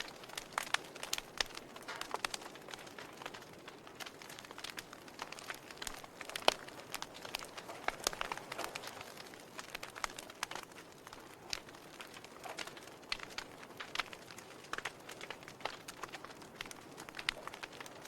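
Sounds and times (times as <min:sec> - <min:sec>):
logs crackling and popping: 0:00.0 - 0:18.0.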